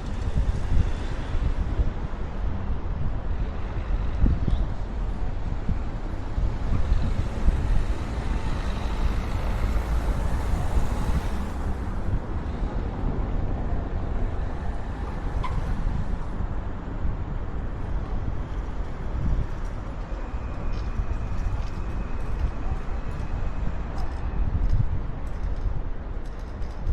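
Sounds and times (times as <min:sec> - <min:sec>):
road traffic: 0:00.0 - 0:26.9
wind rumbling on microphone: 0:00.0 - 0:26.9.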